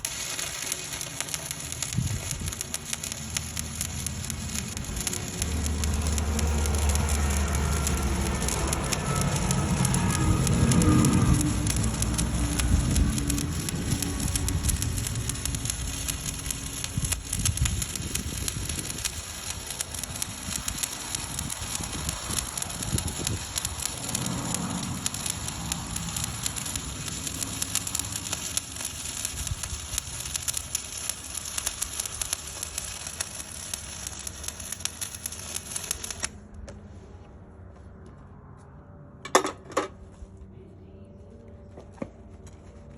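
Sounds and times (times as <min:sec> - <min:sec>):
welding arc crackle: 0:00.0 - 0:36.4
low rumble: 0:00.9 - 0:42.9.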